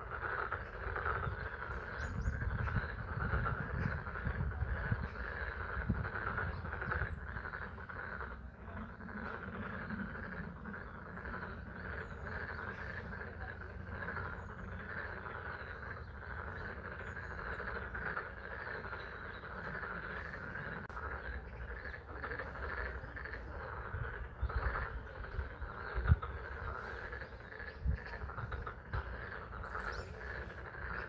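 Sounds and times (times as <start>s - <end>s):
frogs calling in chorus: 0.0s - 31.0s.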